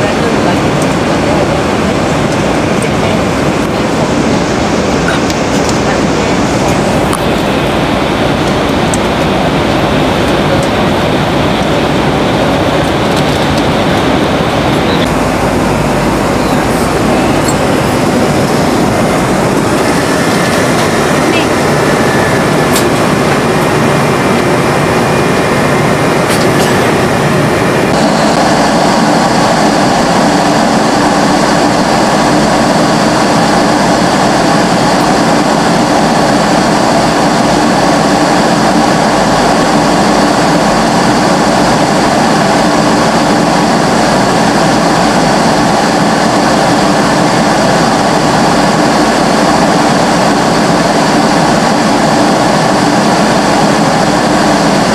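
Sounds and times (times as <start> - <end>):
jet cabin engine noise: 0.0 - 54.9.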